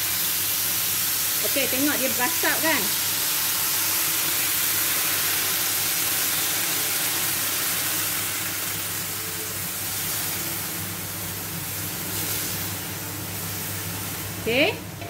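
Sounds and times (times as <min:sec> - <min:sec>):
water sizzling on hot metal: 0:00.0 - 0:14.8
cooker hood fan humming: 0:00.0 - 0:15.0.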